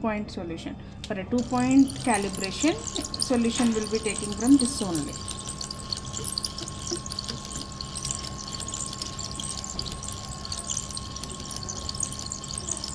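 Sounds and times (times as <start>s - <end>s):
light scattered crackle: 1.4s - 12.9s
machine hum: 1.4s - 12.9s.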